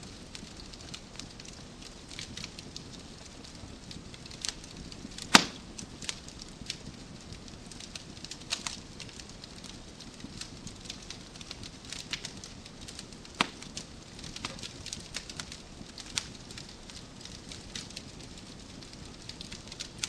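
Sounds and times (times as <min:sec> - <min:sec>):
rush of flame: 0:00.0 - 0:20.0
wood fire crackling: 0:00.0 - 0:20.0.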